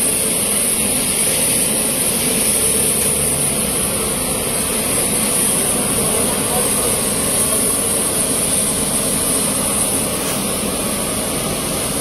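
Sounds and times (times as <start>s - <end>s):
jet engines roaring with hissing whine: 0.0s - 12.0s.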